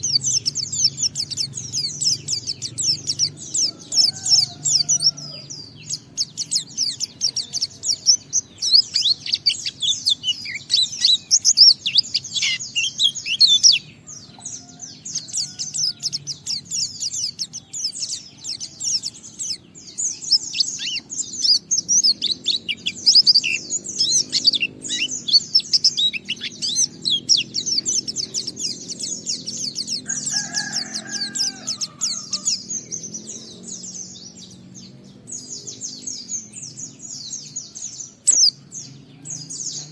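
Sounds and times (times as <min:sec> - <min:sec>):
bird high twittering song: 0:00.0 - 0:39.9
lower bird call: 0:00.0 - 0:39.9.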